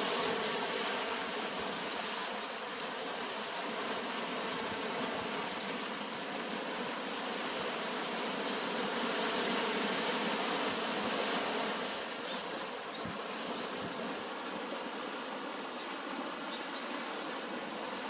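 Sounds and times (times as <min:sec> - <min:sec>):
ocean surf washing onto beach: 0:00.0 - 0:18.0.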